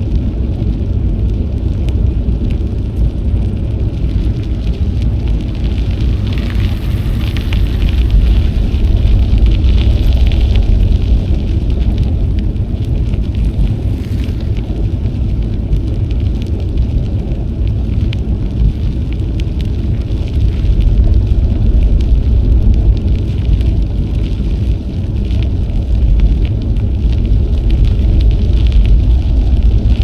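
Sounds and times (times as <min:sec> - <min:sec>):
bike tyres rolling on trail: 0:00.0 - 0:30.0
wind buffeting microphone: 0:00.0 - 0:30.0.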